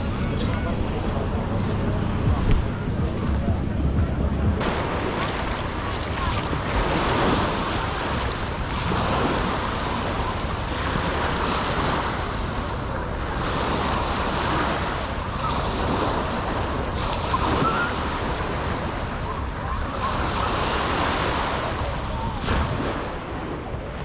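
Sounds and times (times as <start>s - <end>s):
wind rumbling on microphone: 0.0s - 24.0s
sea waves washing onto shore: 4.6s - 24.0s.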